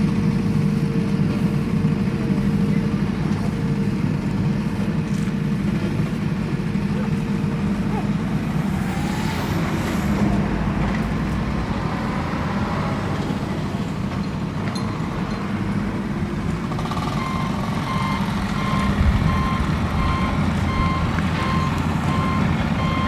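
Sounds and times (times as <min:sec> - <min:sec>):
heavy vehicle engine humming: 0:00.0 - 0:23.0.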